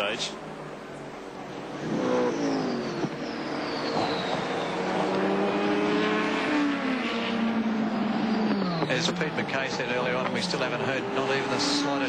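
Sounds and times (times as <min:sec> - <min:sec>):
racing car engine passing: 0:00.2 - 0:12.0.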